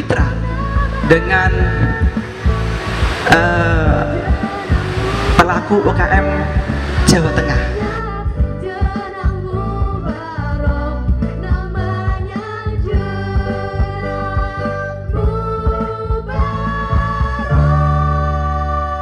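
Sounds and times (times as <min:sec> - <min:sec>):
girls singing into microphones: 0:00.0 - 0:19.0
instrumental backing with bass and beat: 0:00.0 - 0:19.0.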